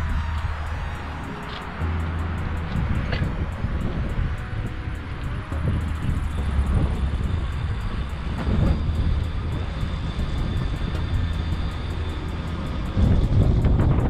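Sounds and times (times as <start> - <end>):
bicycle rolling noise: 0.0 - 14.0
wind buffeting microphone: 0.0 - 14.0.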